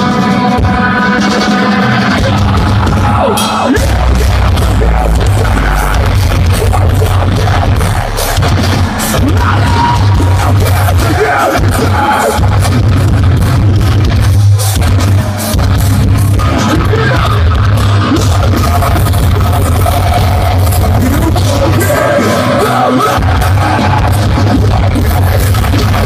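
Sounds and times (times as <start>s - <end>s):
vocalist singing into microphone: 0.0s - 14.3s, 16.2s - 26.0s
bass guitar: 0.0s - 26.0s
distorted electric guitars: 0.0s - 26.0s
drums: 0.0s - 26.0s.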